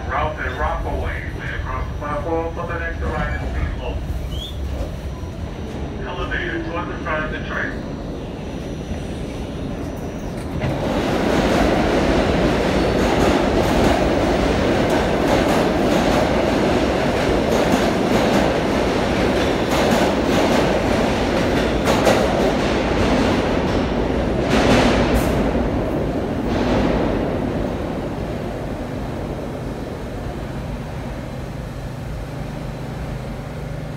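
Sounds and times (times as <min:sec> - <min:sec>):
subway train wheels rumbling: 0:00.0 - 0:33.9.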